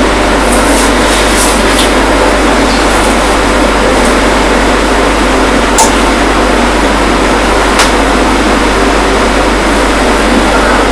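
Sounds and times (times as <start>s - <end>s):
loud steady hiss: 0.0s - 10.9s
low hum: 0.0s - 10.9s.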